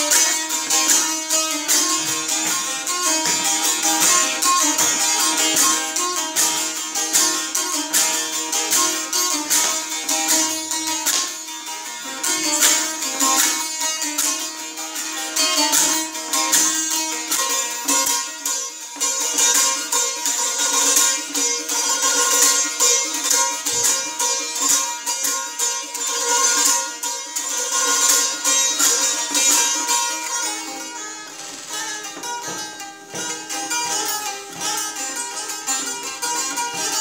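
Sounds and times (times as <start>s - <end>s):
lute strumming: 0.0s - 37.0s.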